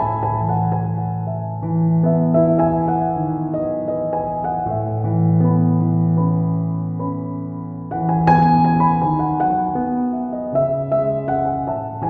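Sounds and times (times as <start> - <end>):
piano melody: 0.0 - 12.0.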